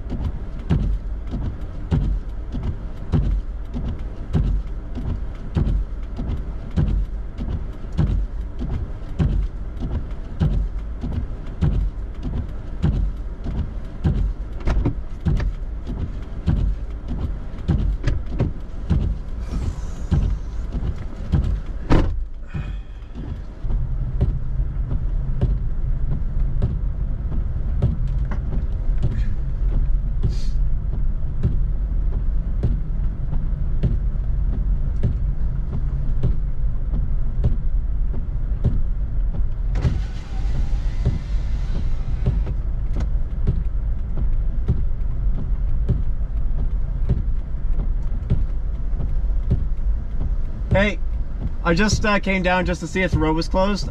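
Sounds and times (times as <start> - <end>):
car driving on snow: 0.0 - 53.9
low rumble: 0.0 - 53.9
knocks and thumps: 0.1 - 53.4.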